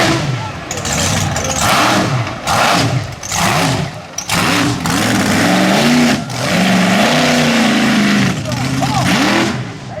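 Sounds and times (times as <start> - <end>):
truck engine revving: 0.0 - 9.9.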